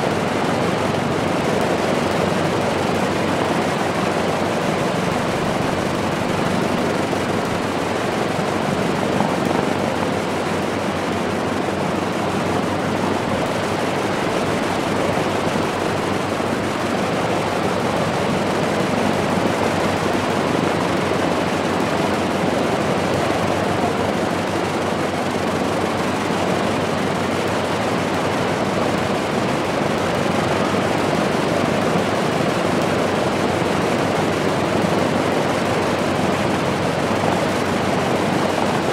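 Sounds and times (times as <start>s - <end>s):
aircraft piston engines running: 0.0s - 38.9s.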